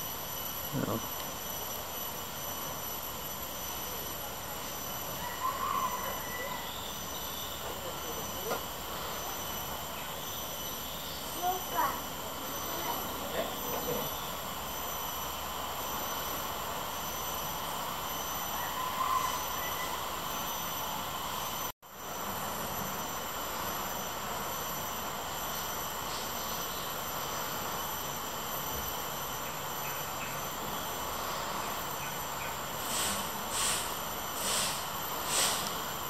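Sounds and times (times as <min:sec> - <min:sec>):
hiss: 0:00.0 - 0:36.0.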